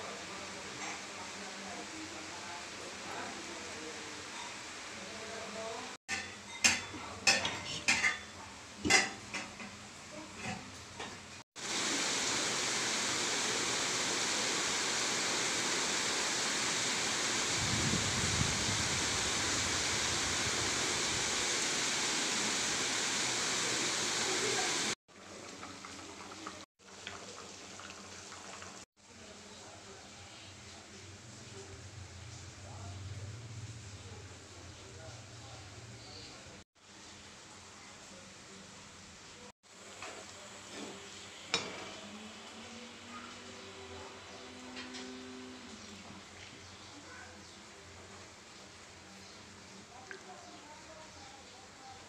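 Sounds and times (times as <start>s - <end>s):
frying sizzle: 0.0s - 35.8s, 36.8s - 52.0s.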